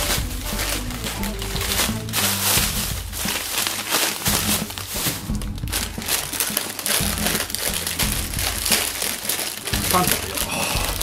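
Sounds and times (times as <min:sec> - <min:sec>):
background music: 0:00.0 - 0:11.0
plastic bag crinkling: 0:00.0 - 0:11.0.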